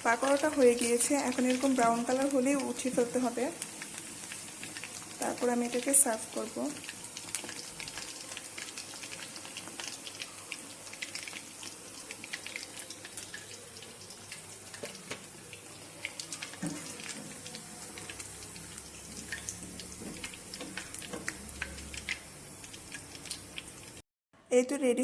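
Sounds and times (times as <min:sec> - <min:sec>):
deep-frying sizzle with popping: 0:00.0 - 0:24.0.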